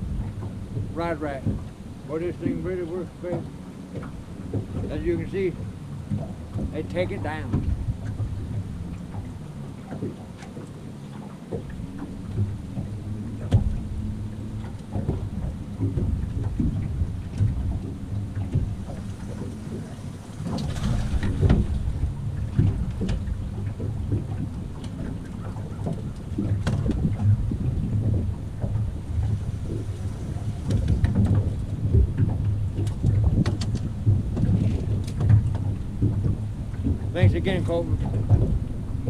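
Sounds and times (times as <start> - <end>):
water lapping against hull: 0.0 - 39.0
wind rumbling on microphone: 0.0 - 39.0.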